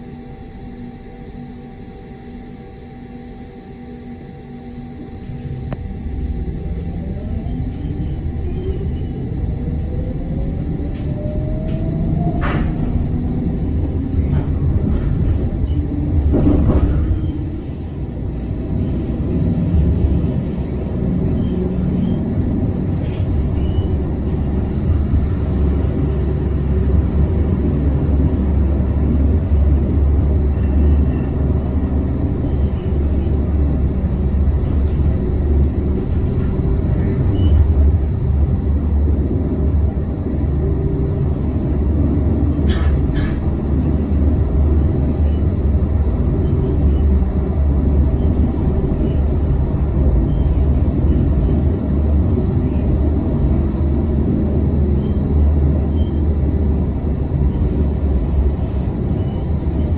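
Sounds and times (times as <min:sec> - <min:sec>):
tram rumbling: 0:00.0 - 0:59.9.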